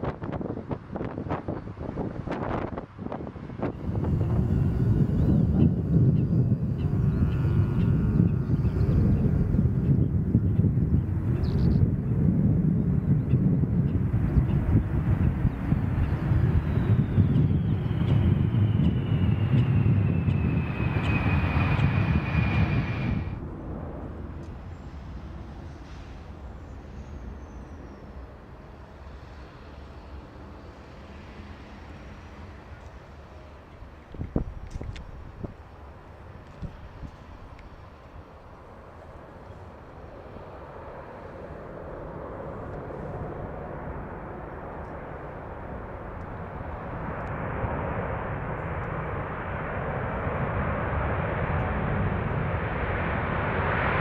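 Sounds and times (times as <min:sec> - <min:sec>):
jet engines low rumble: 0:00.0 - 0:54.0
high engine whine: 0:01.0 - 0:54.0.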